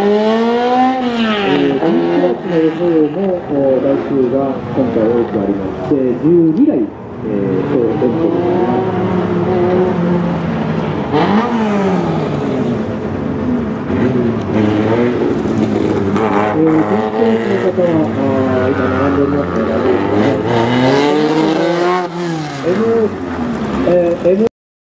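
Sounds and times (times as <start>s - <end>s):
race car engine revving: 0.0s - 24.5s.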